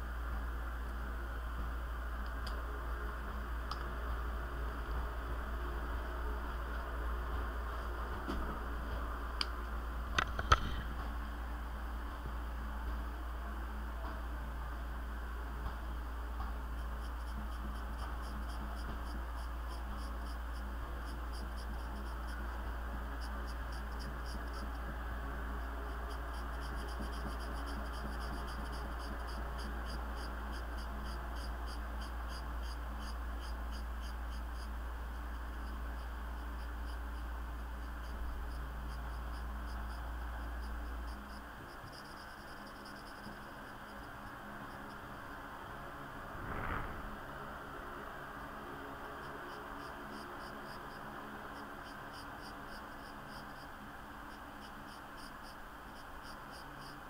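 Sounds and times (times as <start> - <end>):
low hum: 0.0 - 51.0.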